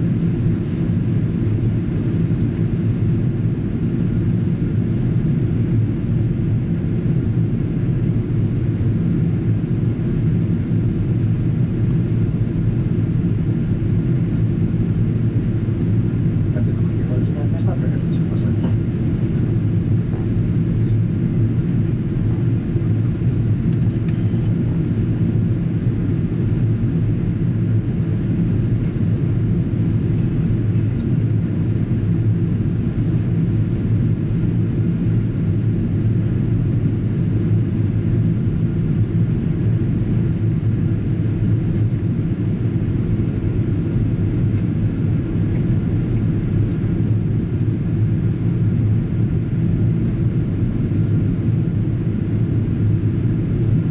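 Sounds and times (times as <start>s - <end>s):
aircraft cabin engine rumble: 0.0s - 53.9s.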